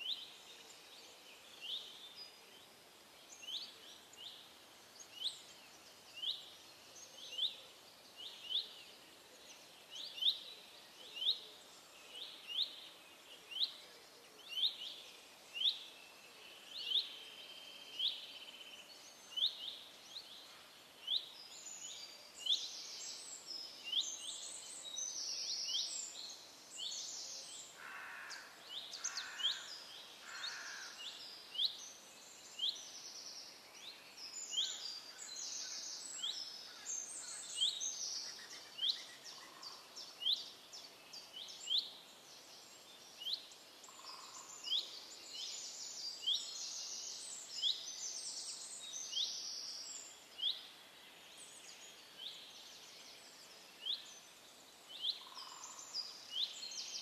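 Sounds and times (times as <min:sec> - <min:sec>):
faint outdoor background: 0:00.0 - 0:57.0
small birds chirping: 0:00.0 - 0:57.0.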